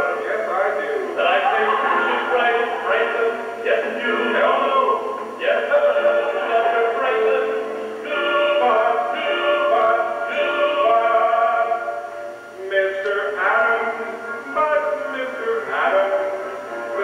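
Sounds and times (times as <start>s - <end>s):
men singing with accompaniment: 1.2s - 17.0s.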